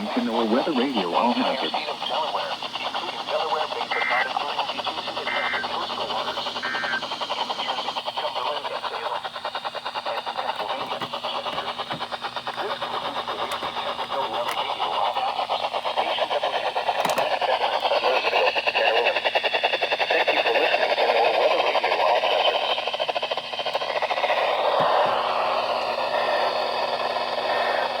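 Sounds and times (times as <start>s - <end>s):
radio static crackling: 0.0s - 28.0s.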